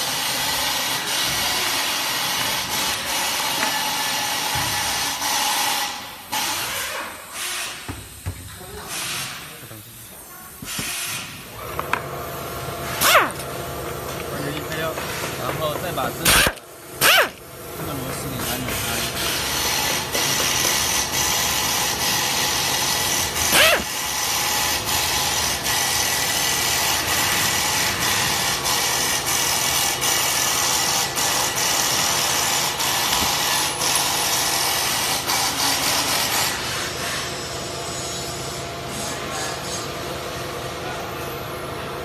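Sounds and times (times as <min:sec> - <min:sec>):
workshop machine hiss: 0:00.0 - 0:41.9.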